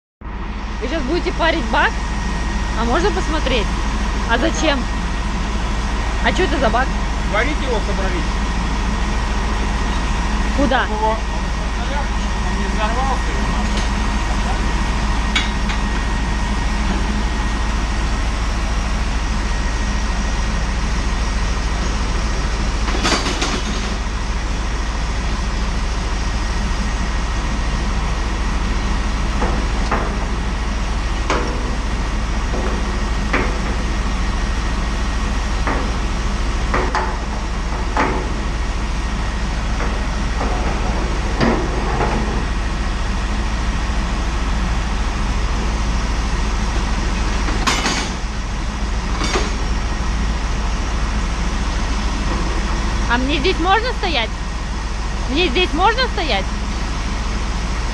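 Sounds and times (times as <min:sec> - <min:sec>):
low hum: 0:00.2 - 0:57.9
steam unit rushing noise: 0:00.2 - 0:57.9.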